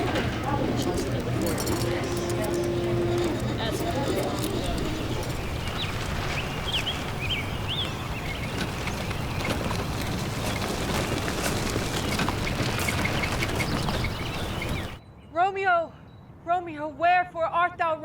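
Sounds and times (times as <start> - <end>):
steady rushing background: 0.0 - 15.0.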